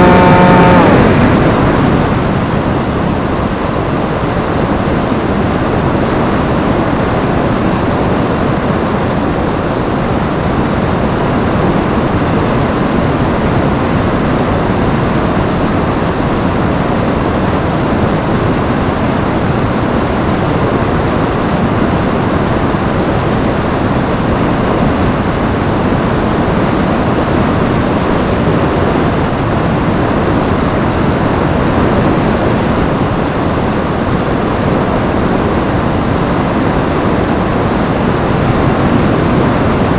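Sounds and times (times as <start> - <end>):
airflow buffeting microphone: 0.0 - 39.9.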